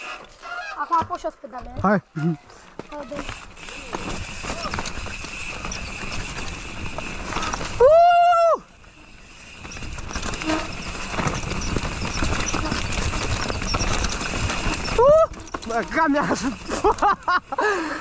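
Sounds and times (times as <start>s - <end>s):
wind and bike trail noise: 0.0s - 18.0s.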